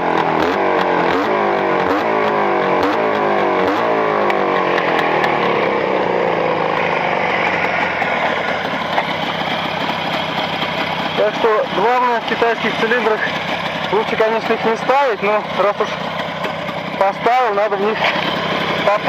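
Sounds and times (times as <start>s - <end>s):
motorcycle engine idling: 0.0s - 19.0s
motorcycle engine revving: 0.0s - 19.0s.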